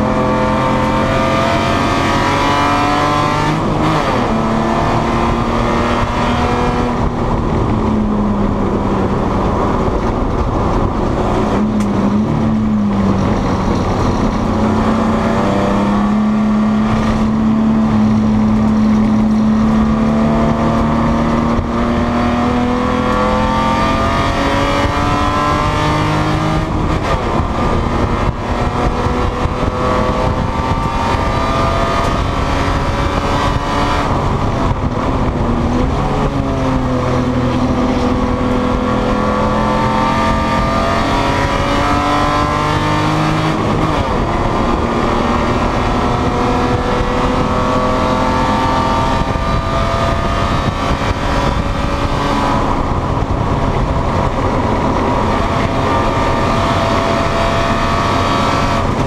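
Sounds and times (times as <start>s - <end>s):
race car engine revving: 0.0s - 59.0s
wind and road noise: 0.0s - 59.0s.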